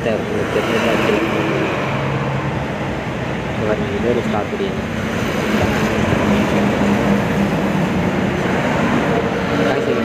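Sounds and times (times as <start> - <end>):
diesel engine hum: 0.0 - 10.0
road and tyre noise: 0.0 - 10.0.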